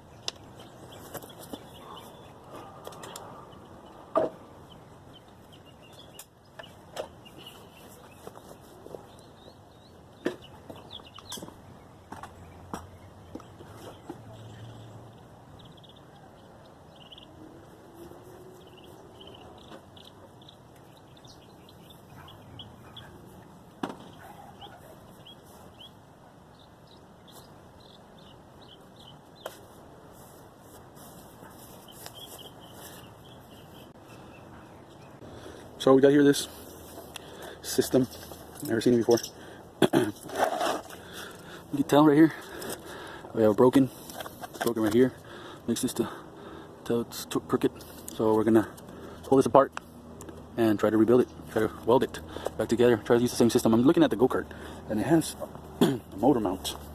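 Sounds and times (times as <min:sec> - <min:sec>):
small birds chirping: 0:00.0 - 0:40.2, 0:40.8 - 0:56.9.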